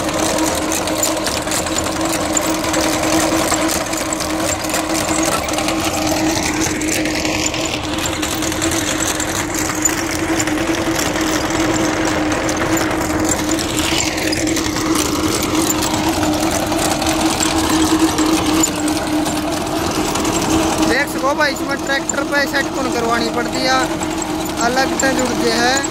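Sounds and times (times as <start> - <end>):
digging chain clatter: 0.0 - 25.9
tractor engine running: 0.0 - 25.9.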